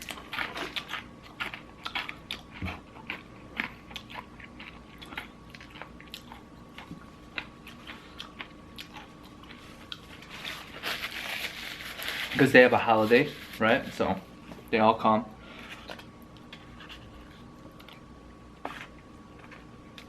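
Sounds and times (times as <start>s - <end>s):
crunchy chewing: 0.0s - 12.2s, 15.6s - 20.0s.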